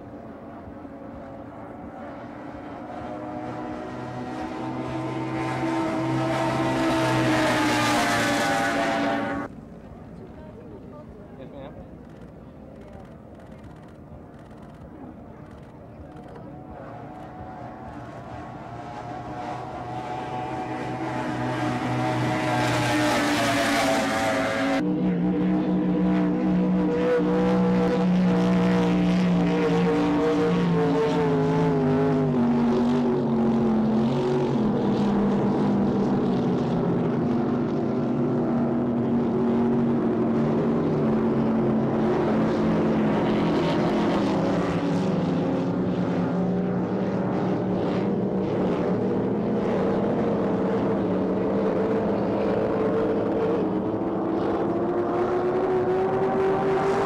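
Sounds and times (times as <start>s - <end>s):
powerboat engines running: 0.0s - 7.8s, 9.4s - 22.6s, 24.6s - 56.9s.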